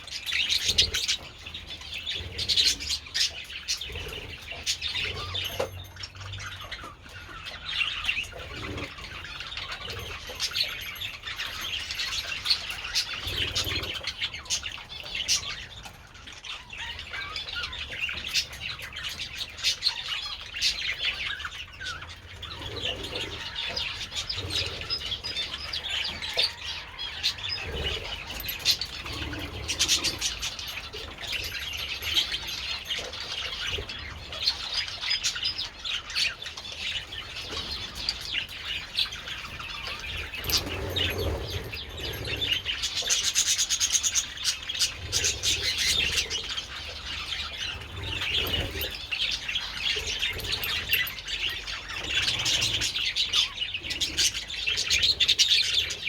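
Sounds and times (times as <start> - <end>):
flock of budgerigars chattering: 0.0 - 56.0.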